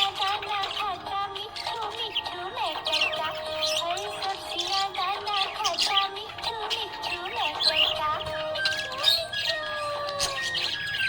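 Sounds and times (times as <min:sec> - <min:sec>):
bouncy sung song: 0:00.0 - 0:11.0
budgies chirping and warbling: 0:00.0 - 0:11.0.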